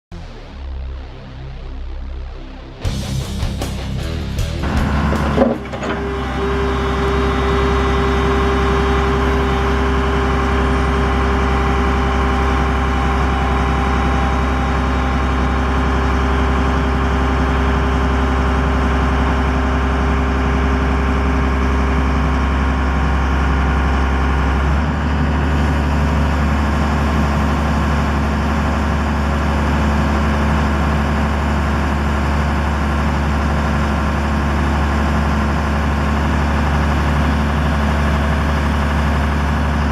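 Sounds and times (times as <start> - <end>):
excavator diesel engine running: 0.2 - 39.9.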